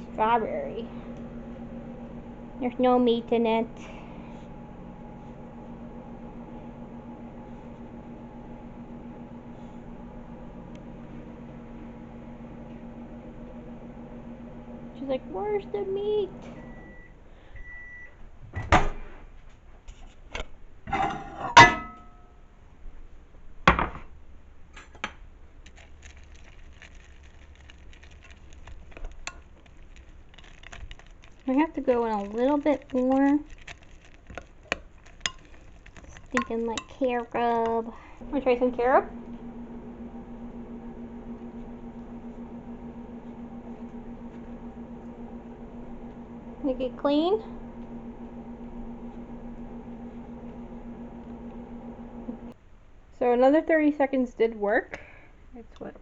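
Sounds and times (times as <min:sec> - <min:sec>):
microwave oven humming: 0:00.0 - 0:19.0, 0:26.1 - 0:52.6.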